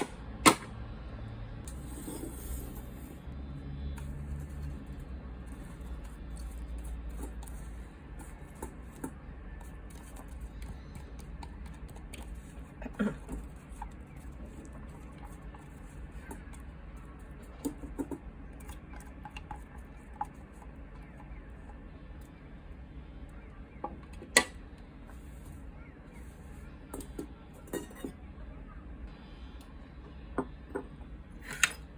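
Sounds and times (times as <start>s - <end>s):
low steady hum: 0.0s - 31.9s.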